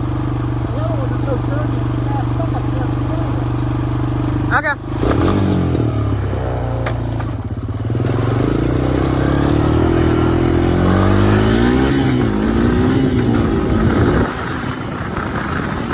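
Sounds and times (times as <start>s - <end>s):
atv engine running under throttle: 0.0s - 15.9s.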